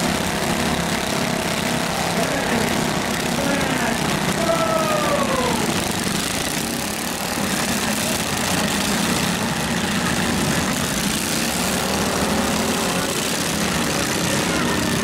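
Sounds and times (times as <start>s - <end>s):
falling engine whine: 0.0s - 15.0s
small tractor engines running: 0.0s - 15.0s.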